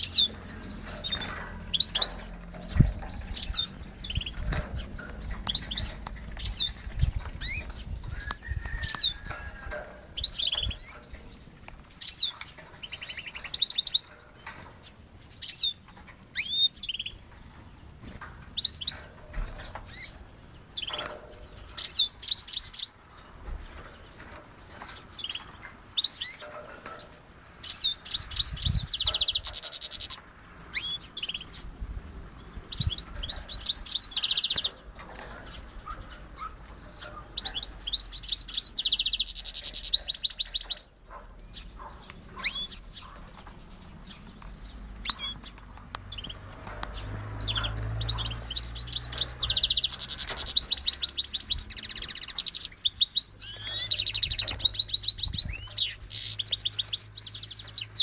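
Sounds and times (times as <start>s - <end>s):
finch twittering and chirping: 0.0s - 58.0s.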